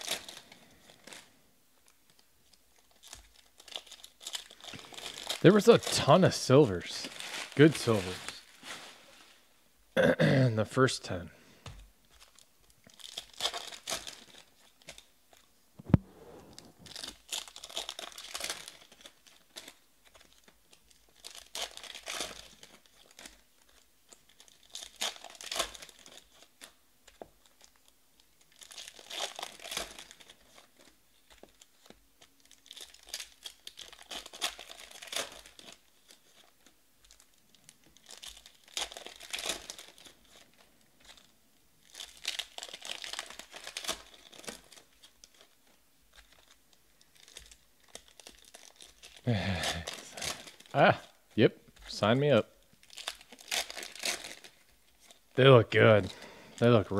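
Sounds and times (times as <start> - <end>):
foil wrappers tearing and crinkling: 0.0 - 9.5, 12.0 - 51.2, 51.8 - 56.9.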